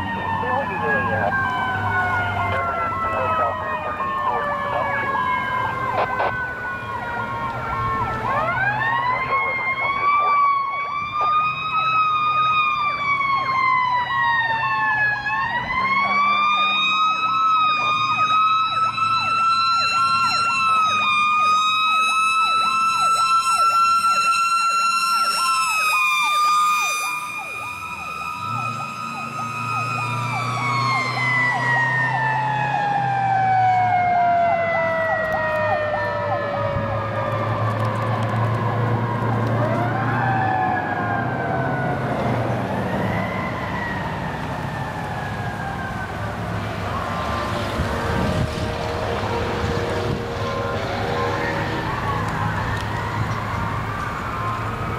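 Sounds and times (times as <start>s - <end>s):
diesel engine drone: 0.0s - 54.9s
pulsing siren: 0.0s - 54.9s
wailing siren: 0.0s - 54.9s.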